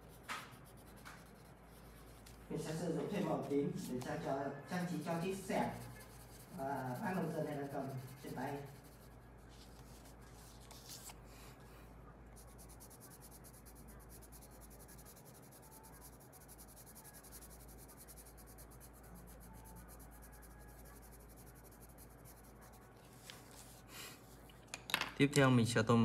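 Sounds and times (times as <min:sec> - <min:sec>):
pencil scratching on paper: 0:00.0 - 0:11.2, 0:12.4 - 0:23.9.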